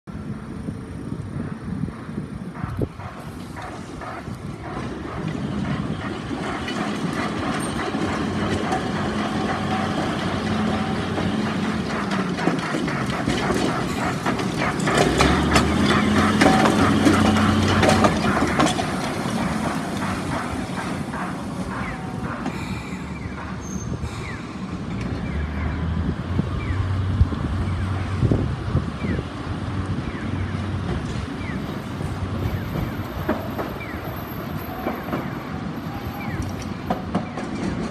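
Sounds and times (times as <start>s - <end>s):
road traffic: 0.0s - 37.9s
locomotive engine hum: 0.1s - 37.9s
wheels clicking over rails: 1.1s - 25.8s, 26.6s - 37.9s.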